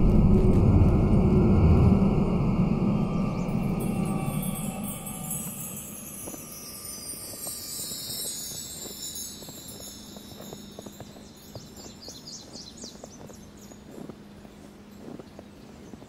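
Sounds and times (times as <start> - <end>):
shimmering chimes: 0.0 - 14.1
footsteps in snow: 3.0 - 16.0.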